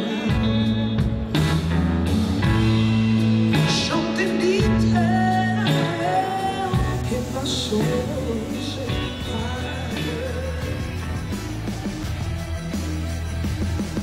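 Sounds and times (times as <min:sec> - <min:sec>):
person singing: 0:00.0 - 0:01.8, 0:03.5 - 0:14.0
bass line: 0:00.0 - 0:14.0
electric guitars: 0:00.0 - 0:14.0.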